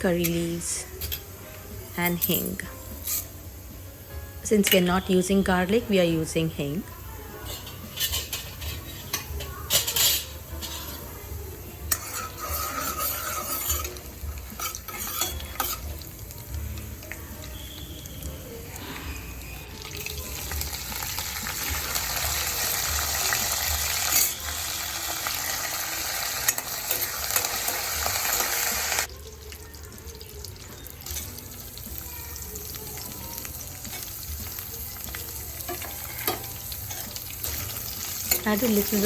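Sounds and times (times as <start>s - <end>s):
spices sizzling in hot oil: 0.0s - 39.0s.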